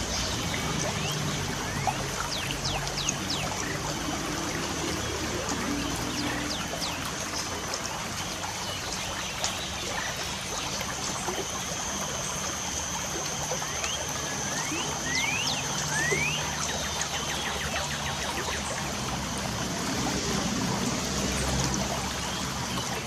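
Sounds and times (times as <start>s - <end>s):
birds chirping: 0.0s - 19.4s
water trickling: 0.0s - 23.0s.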